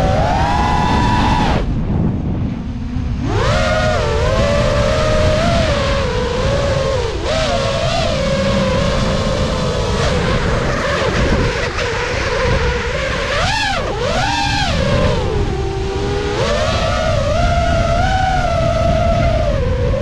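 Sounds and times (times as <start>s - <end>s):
quadcopter motors whining: 0.0s - 20.0s
wind rumble on microphone: 0.0s - 20.0s.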